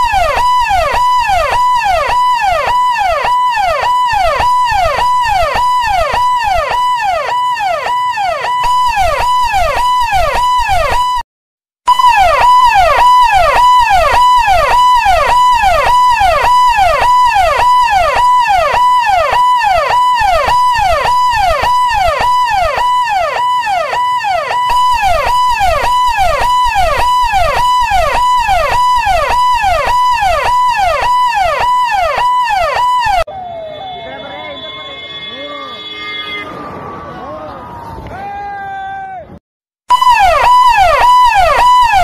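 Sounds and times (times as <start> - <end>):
electronic emergency vehicle siren: 0.0 - 11.2, 11.9 - 38.1, 39.9 - 42.0.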